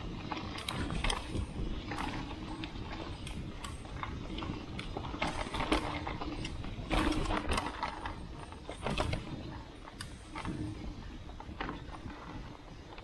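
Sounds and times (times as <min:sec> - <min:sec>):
bike chain and frame rattling: 0:00.0 - 0:13.0
wind on microphone: 0:00.0 - 0:13.0.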